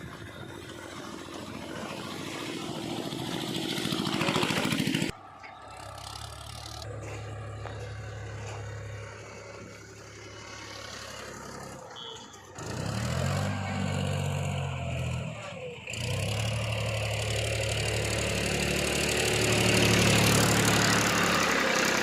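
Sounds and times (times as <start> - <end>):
heavy diesel machinery engine: 0.0 - 22.0.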